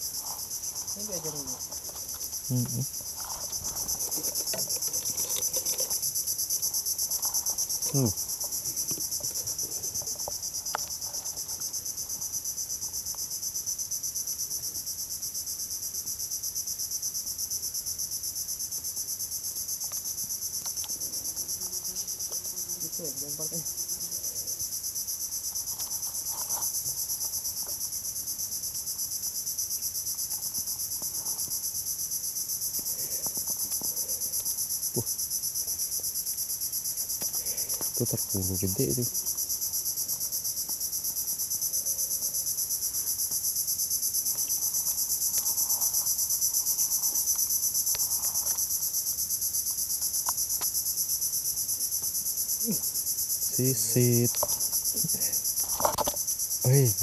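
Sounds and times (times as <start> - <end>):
insects chorus whining: 0.0 - 57.0.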